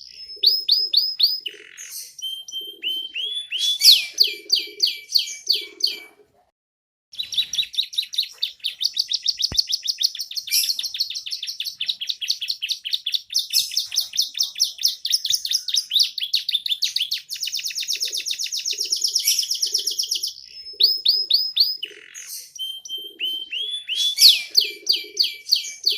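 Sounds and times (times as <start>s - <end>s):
canary singing trills: 0.0s - 6.3s, 7.1s - 25.9s.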